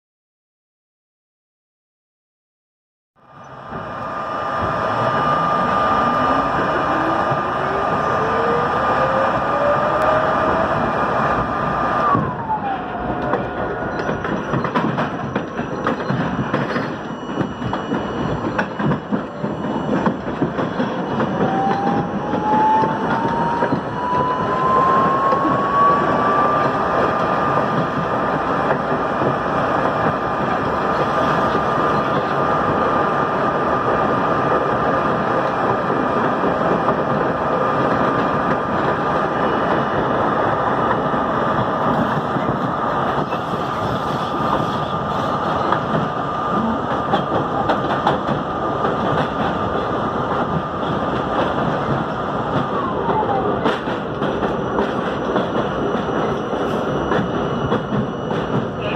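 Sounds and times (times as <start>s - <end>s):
train wheels rumbling on track: 3.2s - 58.9s.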